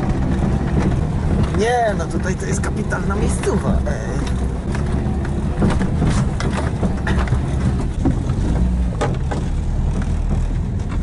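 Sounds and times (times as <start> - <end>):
knocks and rattles from bumps: 0.0 - 11.0
vehicle engine running under load: 0.0 - 11.0.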